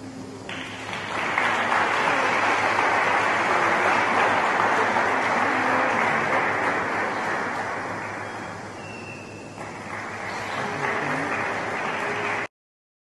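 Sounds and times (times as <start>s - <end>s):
audience applauding: 0.4s - 12.5s.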